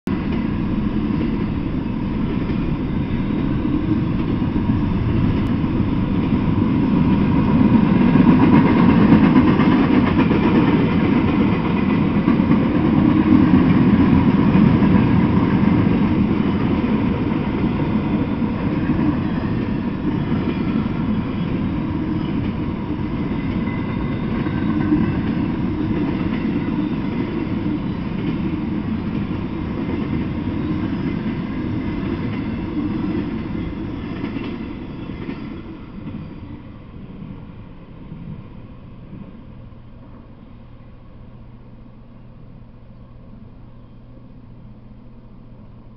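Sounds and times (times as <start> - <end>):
train wheels rumbling on rail: 0.1 - 45.9.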